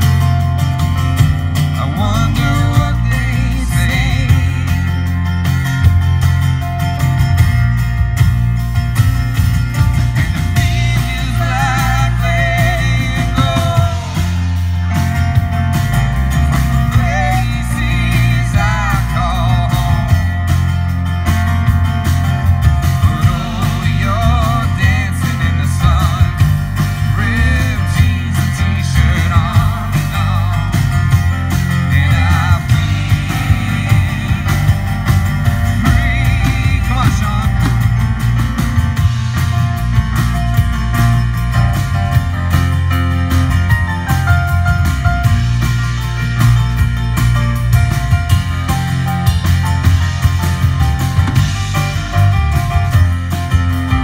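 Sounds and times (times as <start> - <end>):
acoustic guitar: 0.0 - 54.0
drums playing: 0.0 - 54.0
keyboard: 0.0 - 54.0.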